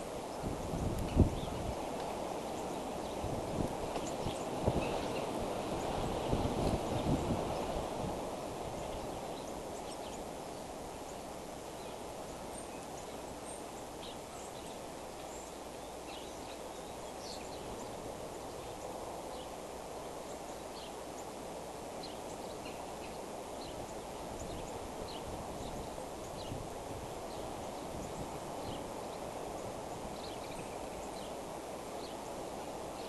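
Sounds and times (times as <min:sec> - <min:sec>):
small birds chirping: 0:00.0 - 0:08.0, 0:08.6 - 0:19.6, 0:20.2 - 0:33.0.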